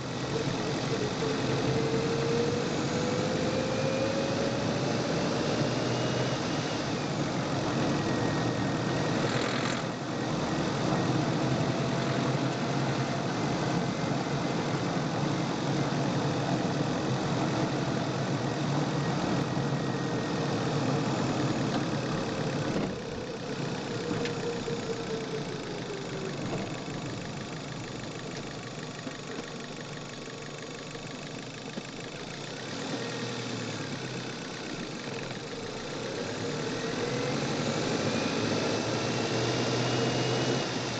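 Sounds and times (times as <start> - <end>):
car engine knocking under acceleration: 7.4 - 40.8.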